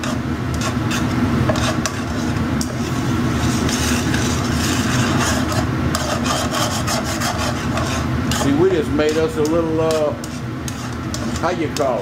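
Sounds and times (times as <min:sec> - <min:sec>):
tongs scraping a skillet: 0:00.0 - 0:12.0.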